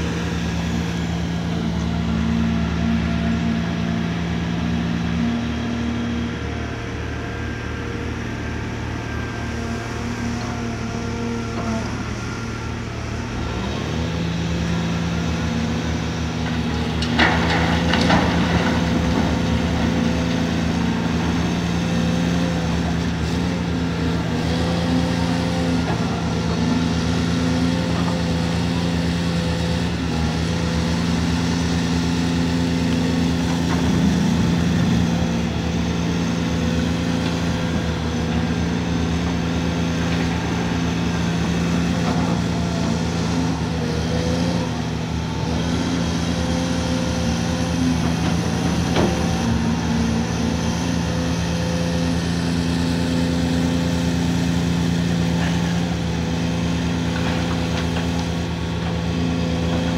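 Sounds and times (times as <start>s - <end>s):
excavator diesel engine revving: 0.0s - 59.9s.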